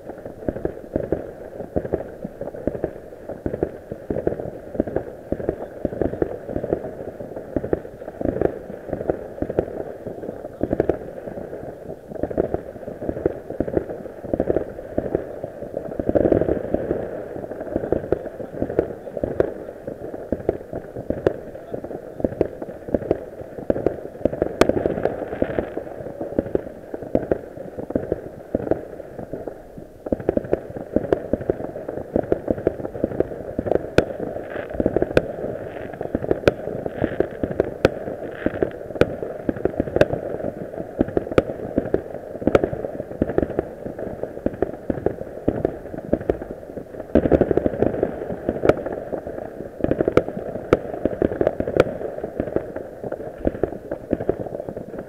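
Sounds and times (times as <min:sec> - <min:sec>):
fireworks popping and banging: 0:00.0 - 0:55.0.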